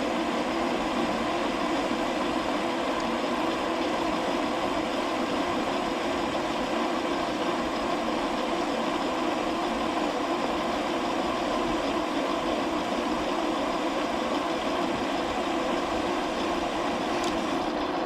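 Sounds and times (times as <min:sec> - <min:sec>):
metal lathe humming: 0:00.0 - 0:18.0.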